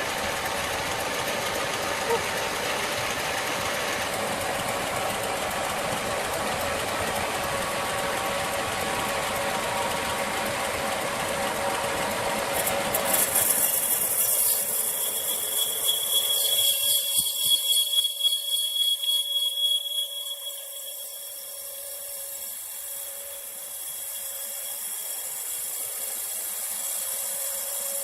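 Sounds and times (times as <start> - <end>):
engine running: 0.0 - 28.0
hiss with high whine: 0.0 - 28.0.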